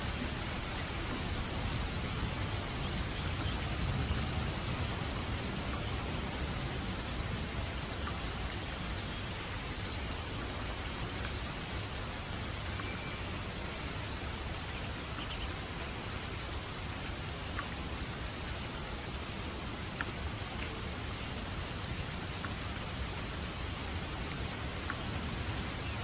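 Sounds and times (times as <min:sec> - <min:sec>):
rain on a roof: 0:00.0 - 0:26.0.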